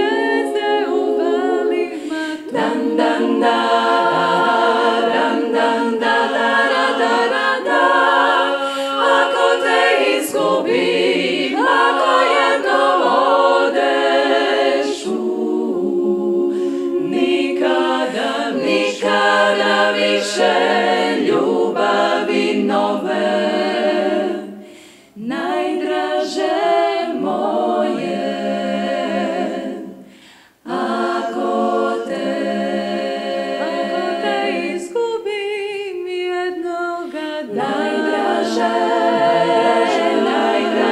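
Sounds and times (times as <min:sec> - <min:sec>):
women singing a cappella harmony: 0:00.0 - 0:40.9.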